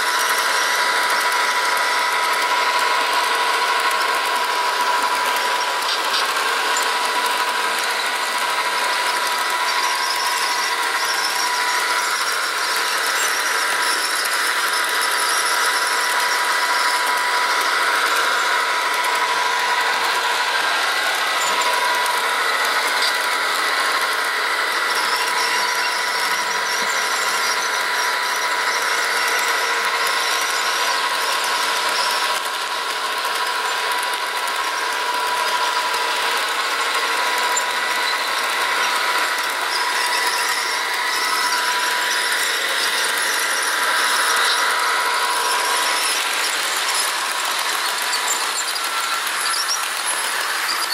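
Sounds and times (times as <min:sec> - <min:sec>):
high whining tones: 0:00.0 - 0:50.9
model train diesel engine sound: 0:00.0 - 0:50.9.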